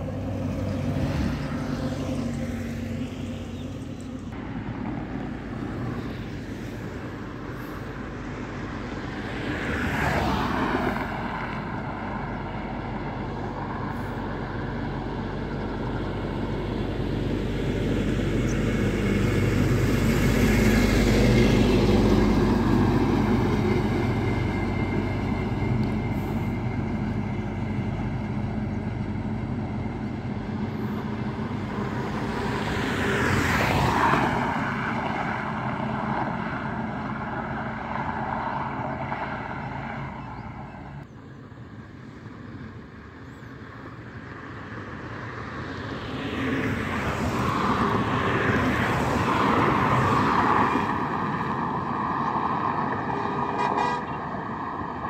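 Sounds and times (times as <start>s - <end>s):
truck engine droning by: 0.0s - 55.0s
vehicle passing with tyre noise: 0.0s - 55.0s.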